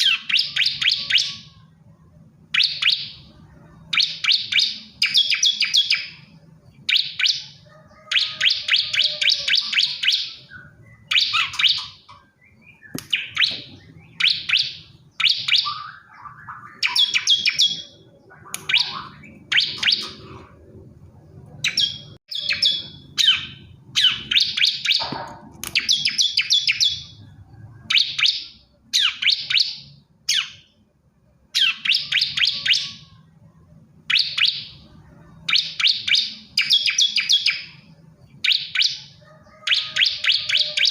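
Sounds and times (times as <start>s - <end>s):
bird singing buzzy chirps: 0.0s - 25.1s, 25.7s - 30.9s, 31.5s - 40.9s.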